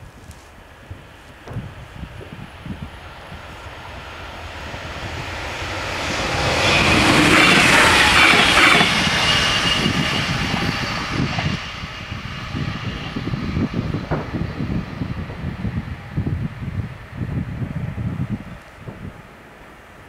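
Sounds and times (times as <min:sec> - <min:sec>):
railcar passing at speed: 0:00.6 - 0:20.0.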